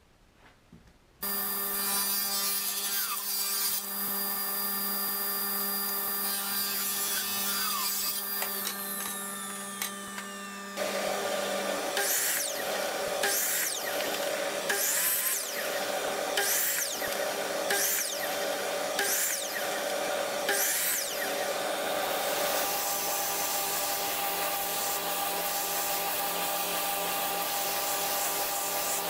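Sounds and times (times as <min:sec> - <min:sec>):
miter saw cutting wood: 0:01.2 - 0:29.0
table saw humming: 0:01.2 - 0:29.0
saw ripping wood: 0:01.7 - 0:04.0, 0:06.1 - 0:29.0.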